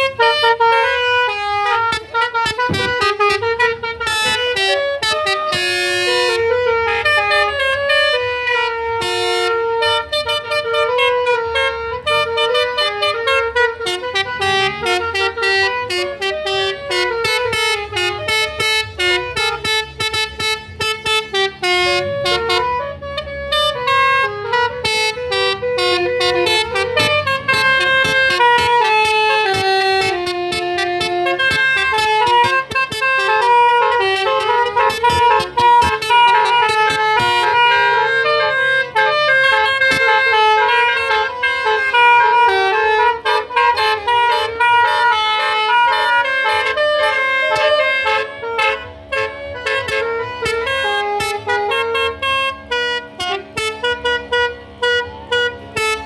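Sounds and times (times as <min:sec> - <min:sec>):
low engine hum: 0:00.0 - 0:56.0
musical car horns playing tunes: 0:00.0 - 0:56.0.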